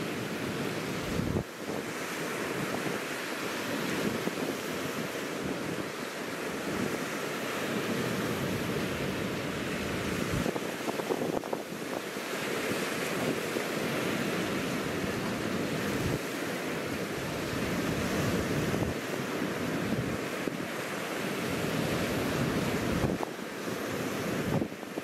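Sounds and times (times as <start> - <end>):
waves breaking on cobble shore: 0.0 - 25.0.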